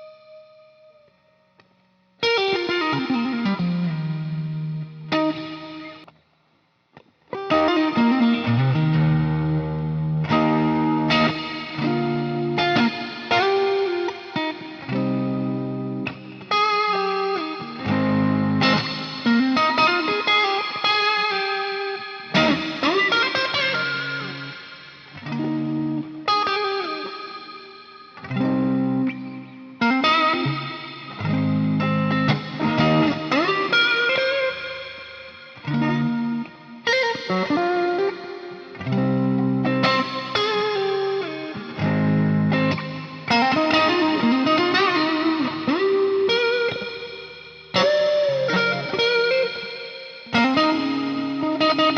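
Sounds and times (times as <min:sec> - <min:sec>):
electric guitar chords ringing: 0:00.0 - 0:06.1, 0:07.3 - 0:51.9
electric guitar lead lines: 0:00.0 - 0:06.3, 0:06.9 - 0:51.9.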